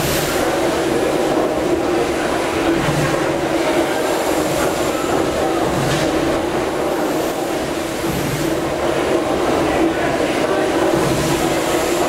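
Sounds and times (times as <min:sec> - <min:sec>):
steam engines running: 0:00.0 - 0:12.0.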